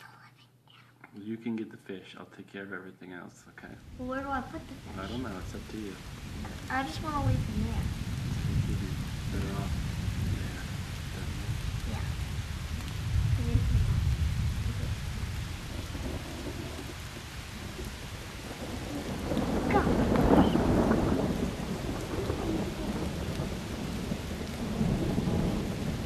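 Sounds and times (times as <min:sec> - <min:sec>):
steady rain: 0:01.1 - 0:26.0
thunder rumbling: 0:03.6 - 0:26.0.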